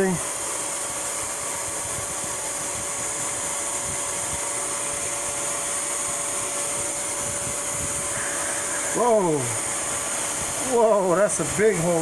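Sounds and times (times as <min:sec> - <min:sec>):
air blower whirring hiss: 0:00.0 - 0:12.0
thin constant whine: 0:00.0 - 0:12.0.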